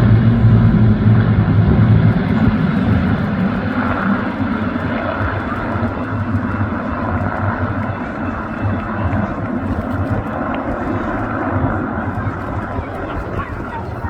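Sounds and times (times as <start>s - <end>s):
piston aircraft engines droning: 0.0s - 14.0s.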